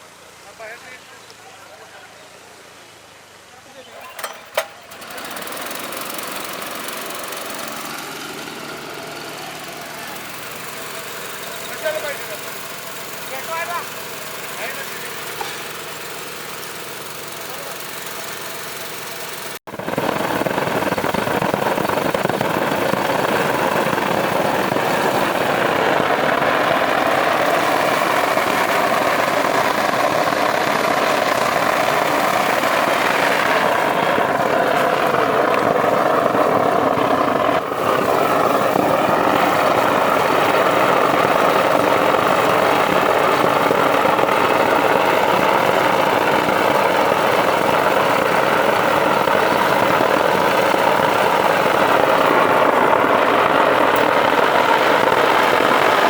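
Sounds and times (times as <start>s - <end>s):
machine running steadily: 4.1s - 56.0s.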